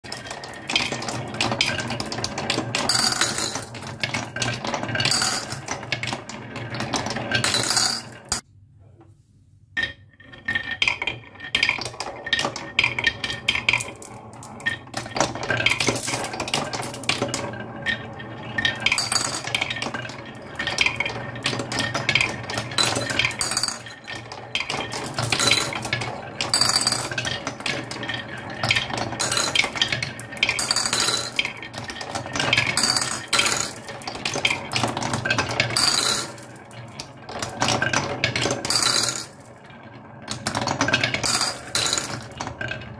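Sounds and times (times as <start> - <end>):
marbles clattering on wood: 0.0 - 8.4, 9.8 - 42.9.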